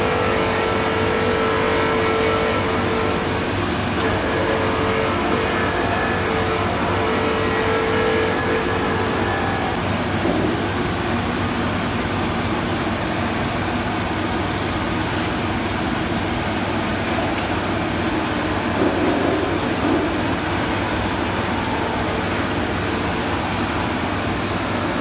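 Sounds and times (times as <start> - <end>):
washing machine hum: 0.0 - 25.0.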